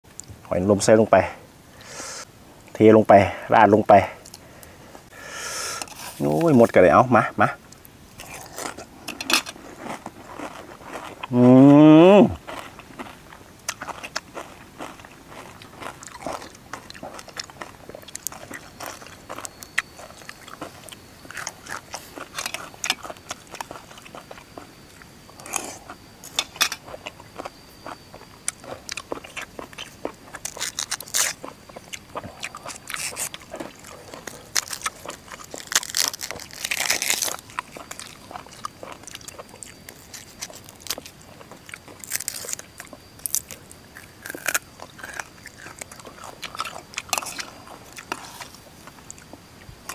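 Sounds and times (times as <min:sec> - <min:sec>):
crunchy chewing of raw vegetables: 0:03.6 - 0:49.9.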